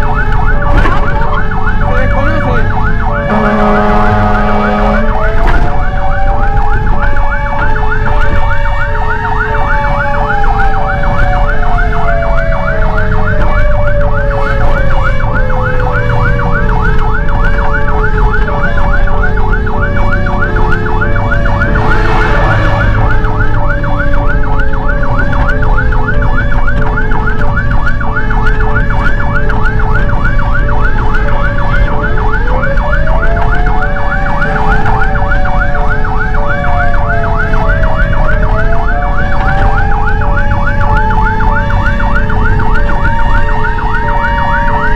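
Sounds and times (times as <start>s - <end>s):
fire engine sirens wailing: 0.0s - 44.9s
two-tone hi-lo siren: 0.0s - 44.9s
warbling yelp siren: 0.0s - 44.9s.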